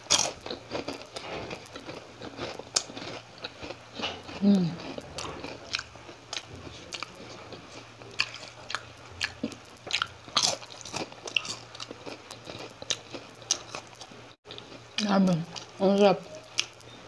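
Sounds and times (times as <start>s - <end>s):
chewing and lip-smacking: 0.1s - 17.0s.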